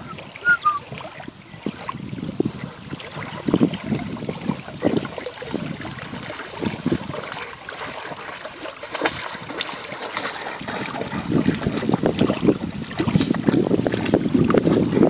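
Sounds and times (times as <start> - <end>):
dog splashing in water: 0.0 - 15.0.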